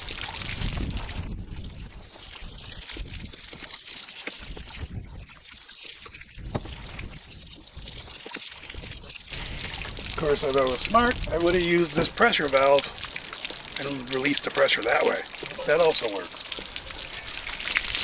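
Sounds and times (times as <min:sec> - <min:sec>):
water trickling from drain port: 0:00.0 - 0:18.0.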